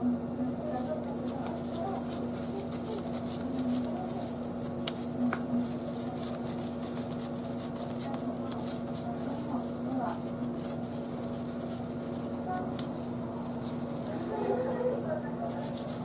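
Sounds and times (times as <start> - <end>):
steady hum: 0.0 - 16.0
hands kneading dough: 0.5 - 16.0.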